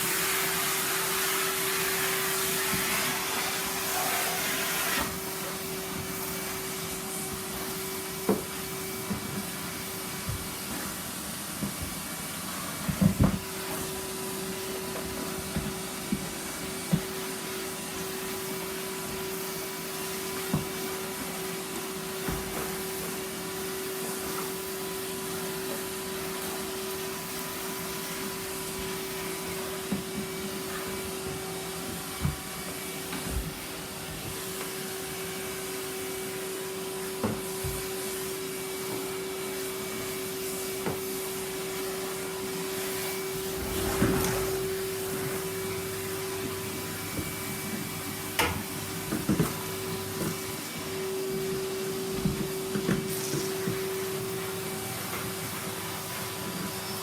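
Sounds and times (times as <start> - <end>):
vacuum cleaner humming: 0.0 - 57.0.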